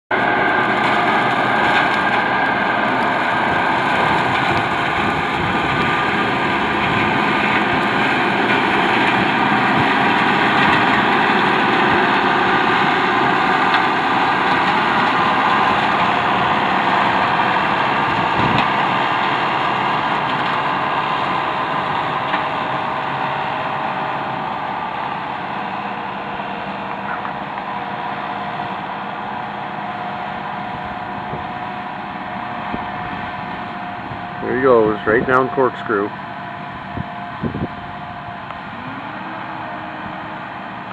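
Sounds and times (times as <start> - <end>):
mower engine cutting grass: 0.1 - 40.9.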